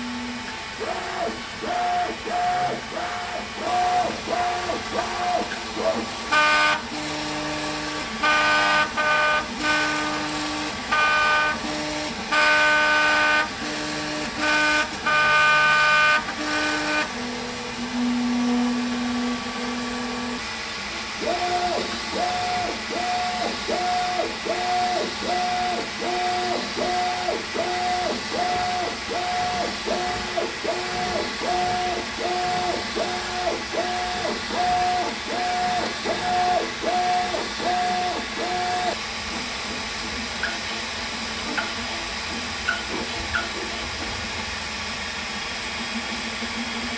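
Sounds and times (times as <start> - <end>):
stepper motors whining: 0.0 - 46.9.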